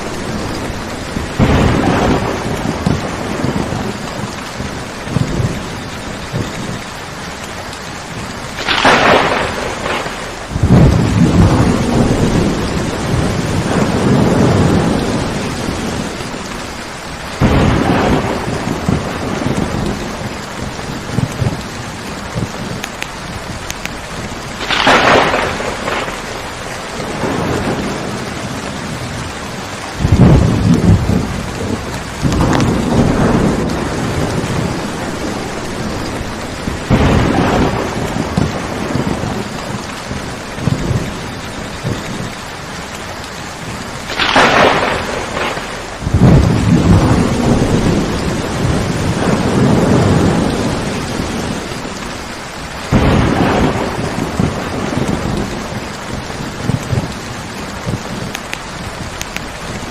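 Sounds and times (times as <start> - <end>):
steady rain: 0.0 - 59.9
thunder claps and rumbles: 0.0 - 59.9.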